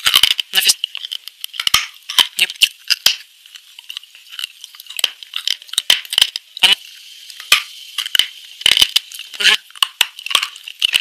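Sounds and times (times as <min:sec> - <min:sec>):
crunching and chewing brittle chunks: 0:00.0 - 0:06.8, 0:07.4 - 0:11.0.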